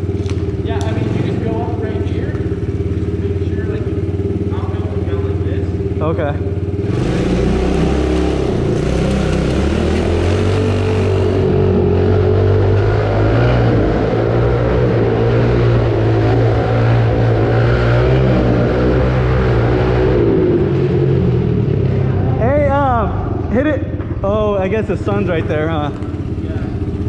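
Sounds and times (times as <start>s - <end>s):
pit bike engine revving: 0.0s - 27.0s.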